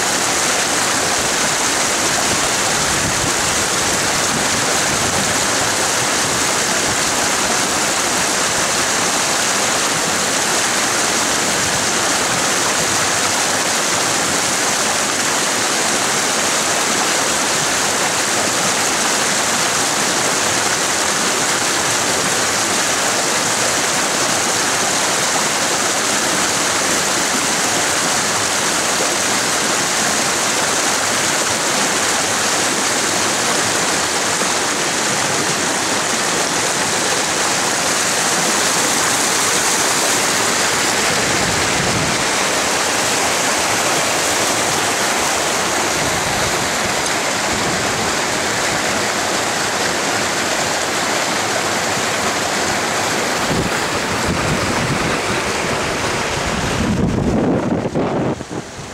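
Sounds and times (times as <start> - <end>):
creek rushing over boulders: 0.0 - 58.9.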